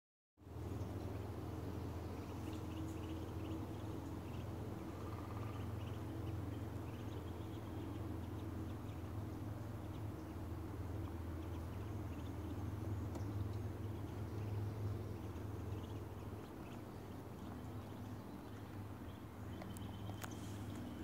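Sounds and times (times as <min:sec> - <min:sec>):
steady low rumble: 0:00.4 - 0:21.0
faint bird chirps: 0:01.9 - 0:21.0.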